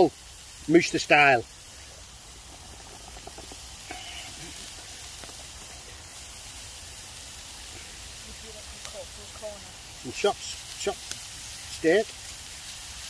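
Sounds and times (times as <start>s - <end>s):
sizzling in a skillet: 0.0s - 13.0s.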